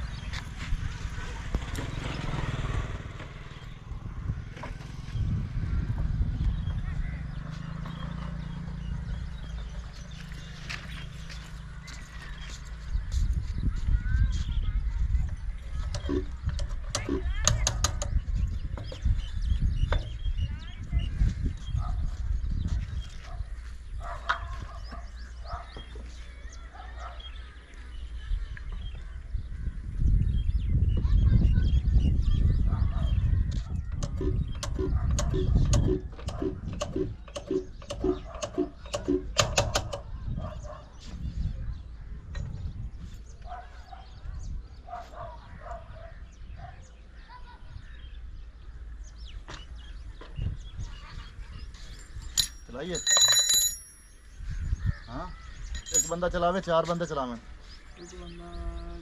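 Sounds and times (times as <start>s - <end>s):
bird calls and chirps: 0.0s - 59.0s.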